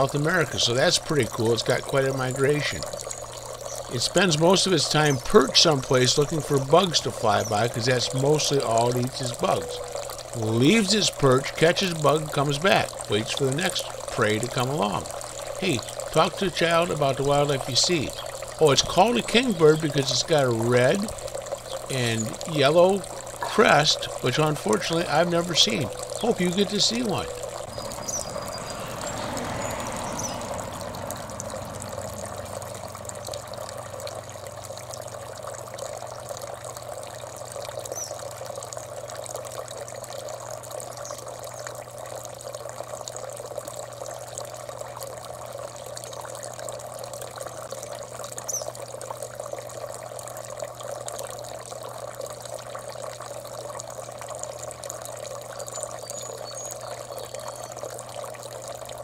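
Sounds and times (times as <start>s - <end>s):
trickling water: 0.0s - 59.0s
low steady hum: 5.0s - 57.9s.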